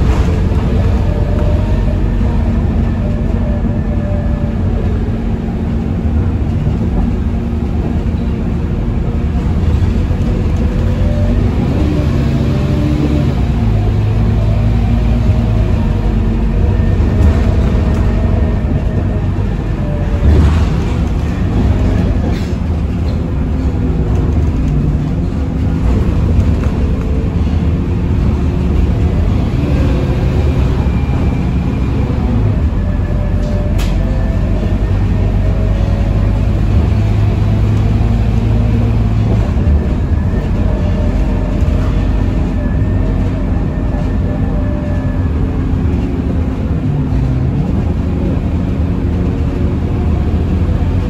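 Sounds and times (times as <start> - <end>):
diesel bus engine rumble: 0.0 - 51.0
road and body noise: 0.0 - 51.0.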